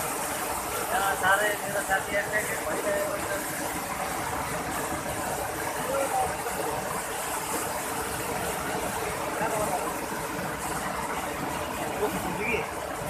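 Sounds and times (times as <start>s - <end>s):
mountain stream rushing over boulders: 0.0s - 13.0s.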